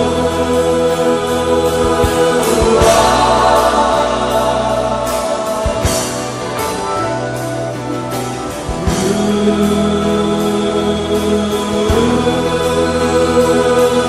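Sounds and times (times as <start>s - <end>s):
many voices singing: 0.0s - 14.0s
worship band playing: 0.0s - 14.0s.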